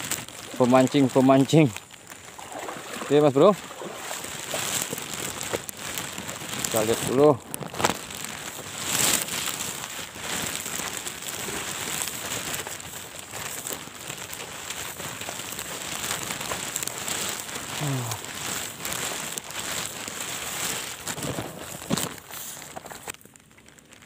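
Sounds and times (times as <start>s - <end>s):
rain hissing: 0.0s - 23.2s
footsteps through wet grass: 0.0s - 24.0s.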